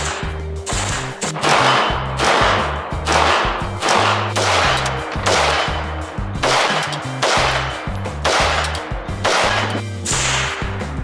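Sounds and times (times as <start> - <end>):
background music with bass: 0.0 - 11.0
rifle shots with echo: 0.7 - 10.6.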